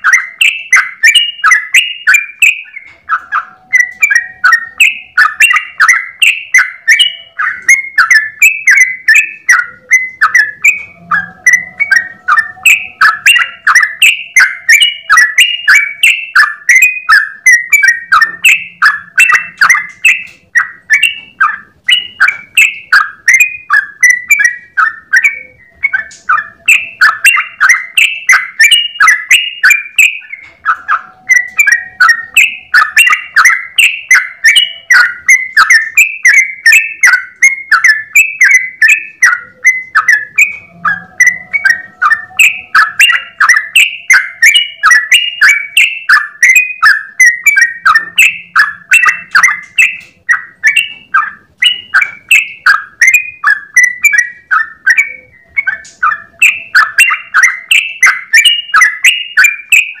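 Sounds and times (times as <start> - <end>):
bird singing bubbling notes: 0.0 - 60.0.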